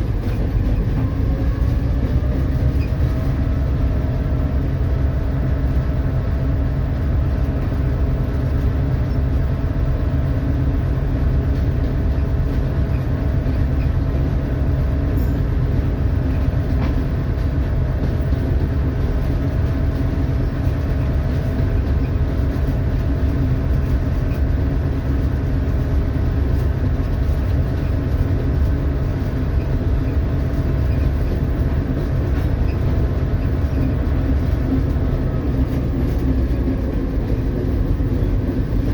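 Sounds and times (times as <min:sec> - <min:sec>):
diesel locomotive engine drone: 0:00.0 - 0:38.9.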